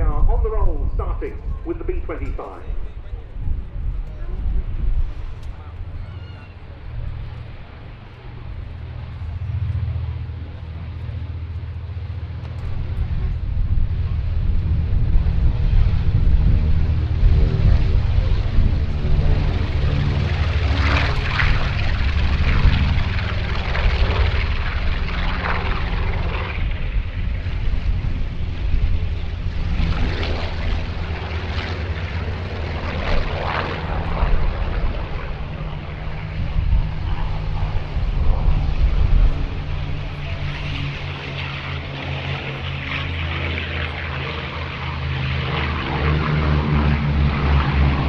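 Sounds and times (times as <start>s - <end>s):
propeller aircraft engines droning: 0.0s - 48.0s.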